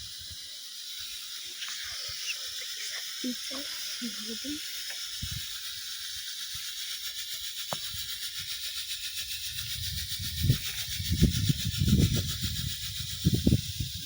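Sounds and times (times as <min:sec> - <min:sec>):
smoke fountain hissing: 0:00.0 - 0:14.0.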